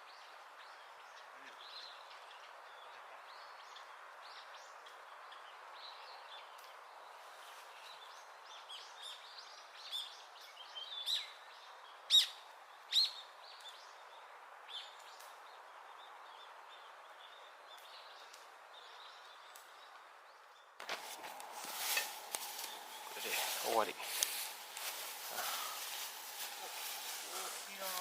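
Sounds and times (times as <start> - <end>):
background hiss: 0.0 - 28.0
small birds chirping: 0.0 - 28.0.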